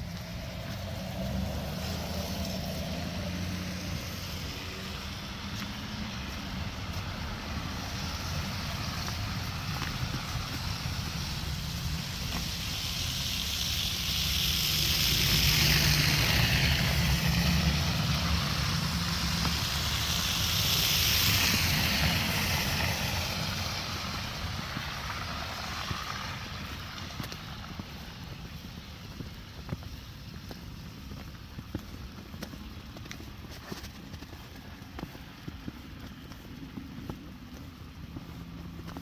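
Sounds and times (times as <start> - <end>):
low traffic rumble: 0.0 - 39.0
tyre hiss of passing vehicles: 0.0 - 39.0
wind: 0.0 - 39.0.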